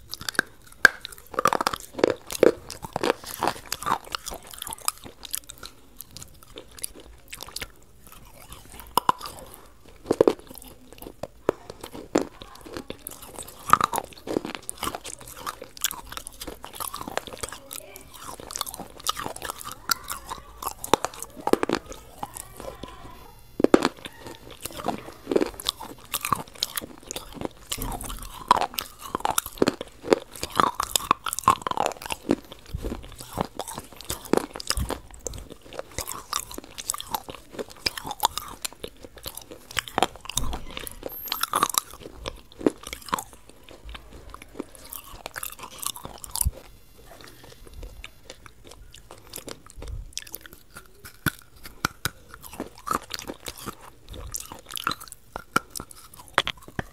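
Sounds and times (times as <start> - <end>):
wet chewing with crunches: 0.0 - 56.9.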